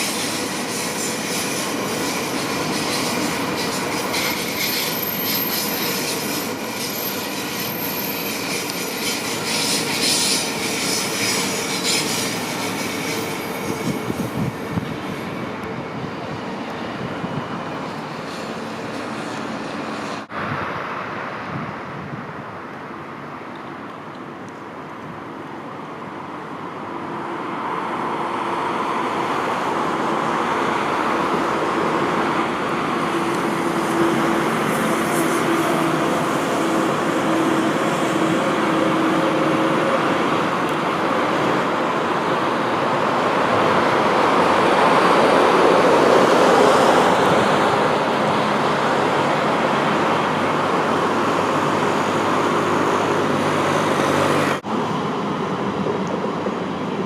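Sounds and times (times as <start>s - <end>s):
passenger train rumbling past: 0.0s - 57.0s.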